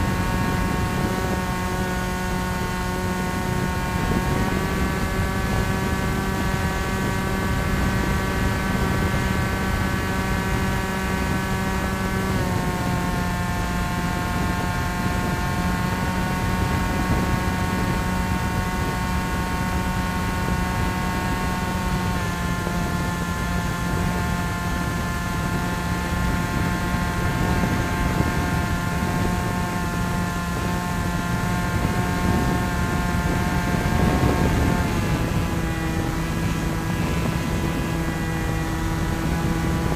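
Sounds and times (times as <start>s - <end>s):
electric propeller motor whining: 0.0s - 39.9s
wind noise: 0.0s - 39.9s.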